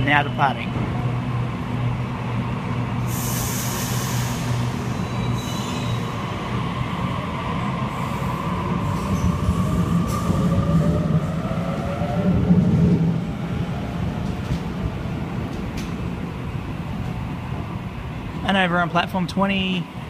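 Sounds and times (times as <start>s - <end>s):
electric train humming: 0.0s - 18.4s.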